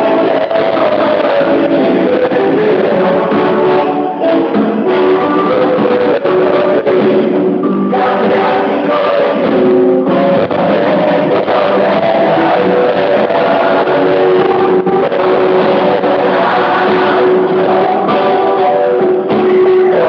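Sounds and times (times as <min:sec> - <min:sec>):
drums: 0:00.0 - 0:20.0
electric guitars: 0:00.0 - 0:20.0
keyboards: 0:00.0 - 0:20.0
person singing lead vocals: 0:00.0 - 0:20.0.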